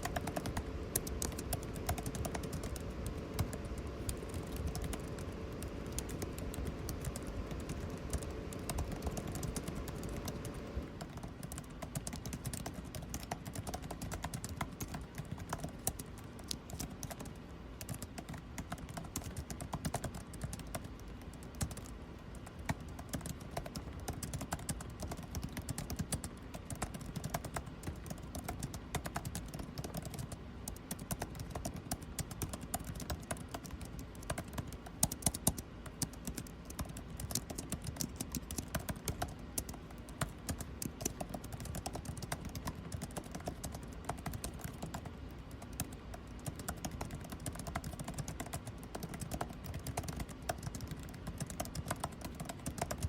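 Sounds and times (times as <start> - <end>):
air conditioning hum: 0.0 - 53.0
faint steady tone: 0.0 - 53.0
keyboard typing: 0.0 - 53.0.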